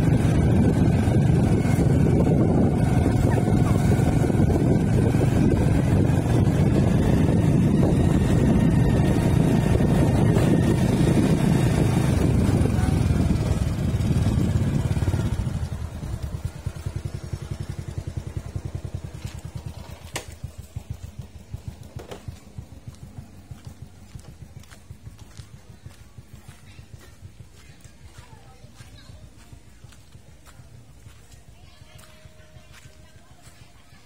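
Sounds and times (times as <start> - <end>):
motorcycle engine: 0.0 - 32.9
wind and road noise: 0.0 - 34.0.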